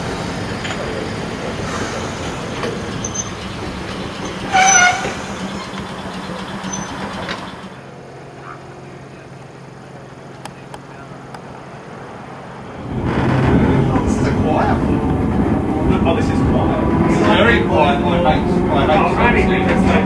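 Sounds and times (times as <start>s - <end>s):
tram rumbling on rails: 0.0s - 20.0s.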